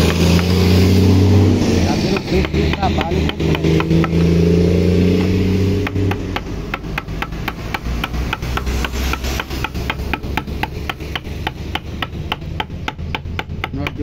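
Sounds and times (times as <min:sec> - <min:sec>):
hammer tapping chisel into wood: 0:02.0 - 0:04.5, 0:05.1 - 0:14.0.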